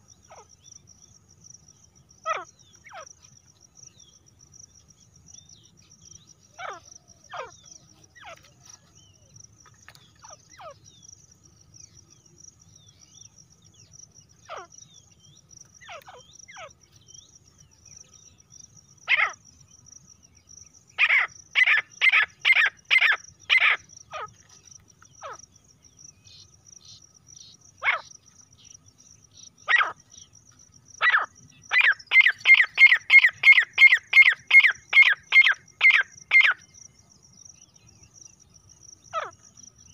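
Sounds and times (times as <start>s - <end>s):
high insect trill: 0.0s - 39.9s
francolins calling: 4.8s - 11.2s, 11.8s - 19.9s, 20.7s - 39.9s.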